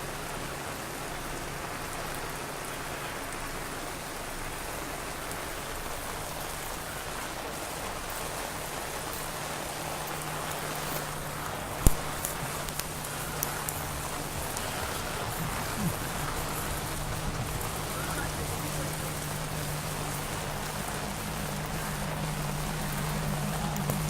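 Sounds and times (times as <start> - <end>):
low steady hum: 0.0 - 24.0
steady rain falling: 0.0 - 24.0.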